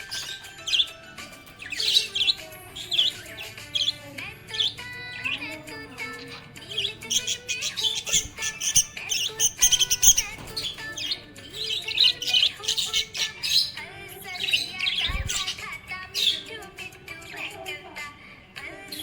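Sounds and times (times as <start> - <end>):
budgerigars chirping and warbling: 0.0 - 18.0.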